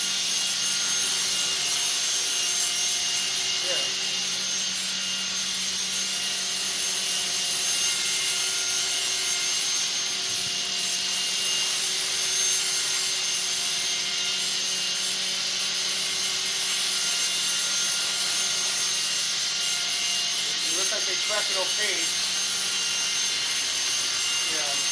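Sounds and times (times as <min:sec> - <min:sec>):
electric motor whine: 0:00.0 - 0:24.9
helicopter rotor whir: 0:00.0 - 0:24.9.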